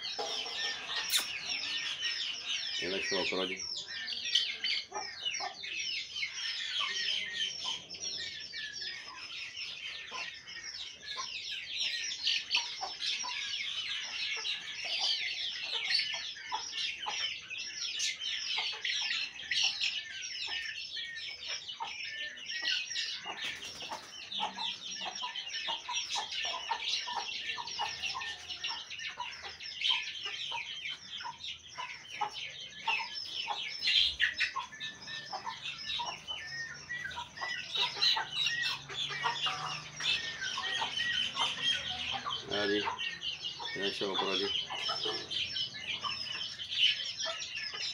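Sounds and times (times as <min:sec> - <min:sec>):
chicks peeping: 0:00.0 - 0:47.9.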